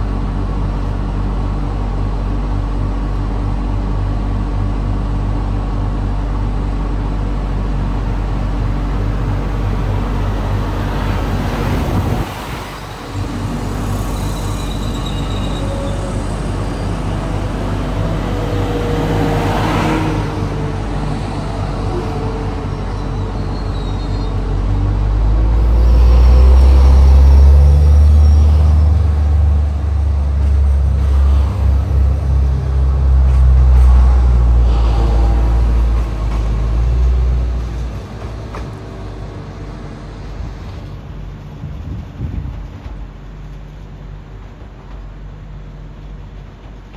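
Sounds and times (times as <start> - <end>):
train idling hum: 0.0 - 46.9
train passing by: 0.0 - 46.9
train pulling away rumble: 0.0 - 46.9.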